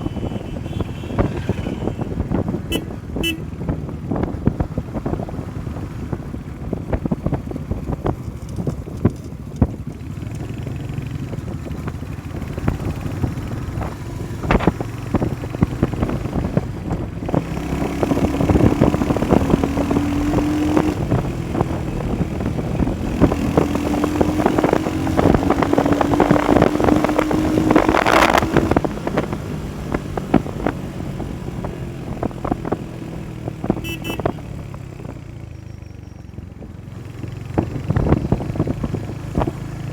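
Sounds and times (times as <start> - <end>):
wind buffeting microphone: 0.0 - 35.5, 37.0 - 39.9
motorcycle engine accelerating: 0.0 - 39.9.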